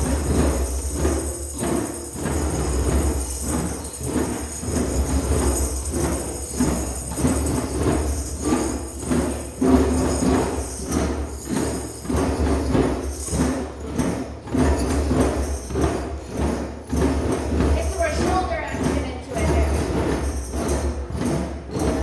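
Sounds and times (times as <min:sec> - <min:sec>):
drums playing driving beat: 0:00.0 - 0:22.0
jingling hand percussion: 0:00.0 - 0:22.0.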